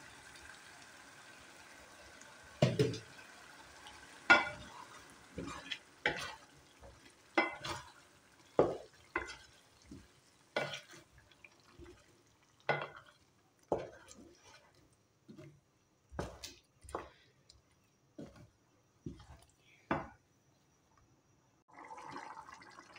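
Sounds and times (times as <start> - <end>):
faint frying sizzle: 0.0 - 20.2.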